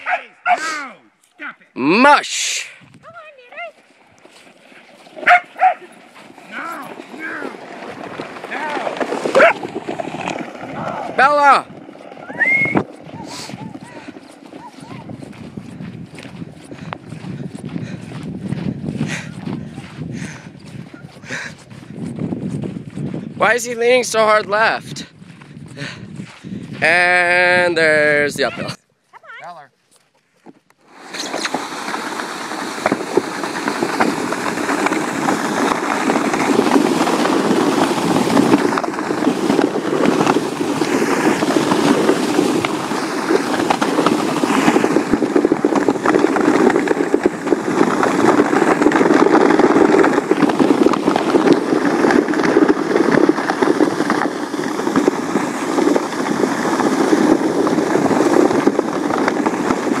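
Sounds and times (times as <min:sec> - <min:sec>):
sled riding over snow: 0:00.0 - 1:00.0
wind buffeting microphone: 0:02.7 - 0:03.4, 0:05.1 - 0:28.8, 0:31.0 - 1:00.0.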